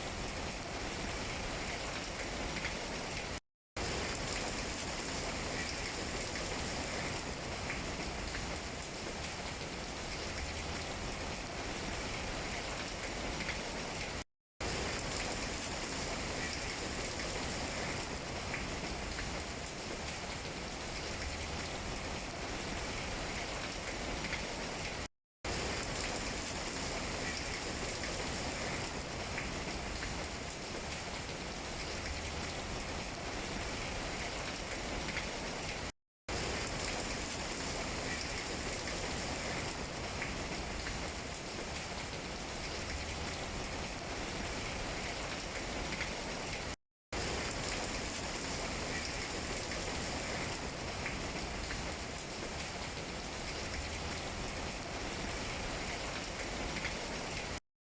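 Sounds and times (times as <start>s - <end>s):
rain falling on leaves: 0.0s - 57.6s.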